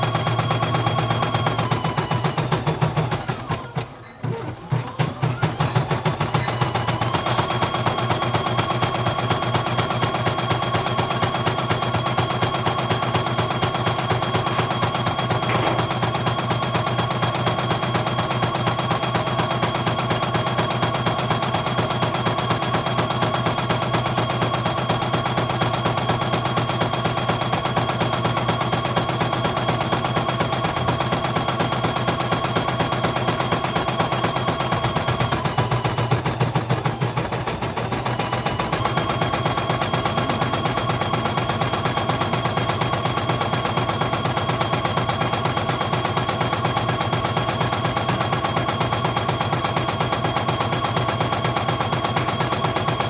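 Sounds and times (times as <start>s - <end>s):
high machine whine: 0.0s - 53.0s.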